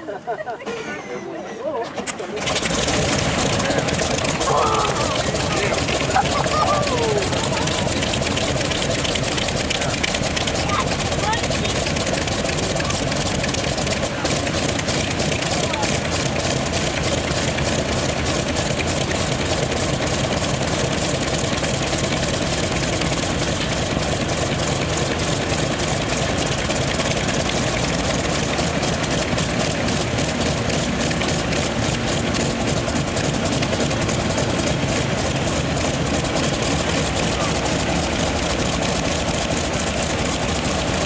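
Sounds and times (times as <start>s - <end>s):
radial aircraft engine idling: 0.0s - 41.0s.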